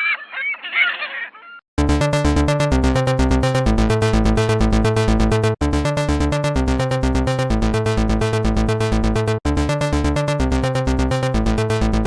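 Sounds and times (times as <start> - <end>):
electronic dance music: 1.8 - 12.0.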